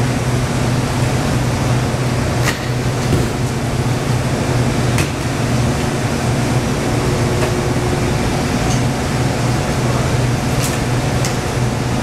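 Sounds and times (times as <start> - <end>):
loud machinery hum: 0.0 - 12.0.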